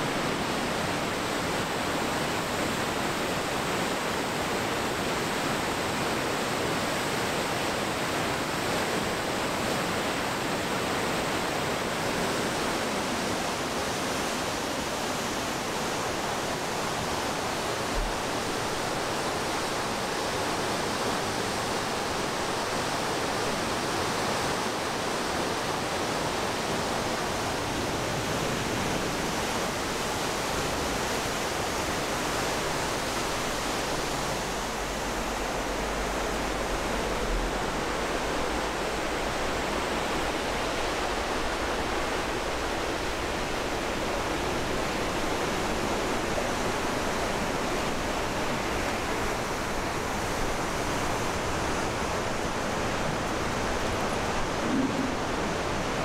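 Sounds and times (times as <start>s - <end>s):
water rushing over weir: 0.0s - 56.0s.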